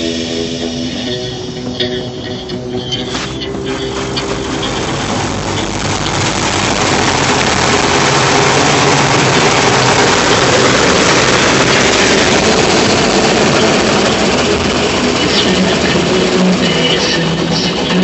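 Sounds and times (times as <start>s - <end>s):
low steady hum: 0.0s - 18.0s
water jets spraying on car: 3.0s - 18.0s.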